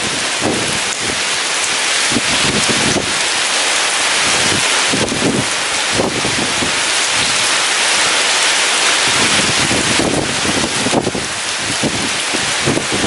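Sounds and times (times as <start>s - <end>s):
heavy rain hiss: 0.0s - 13.0s
wind gusts rumbling: 0.0s - 13.0s.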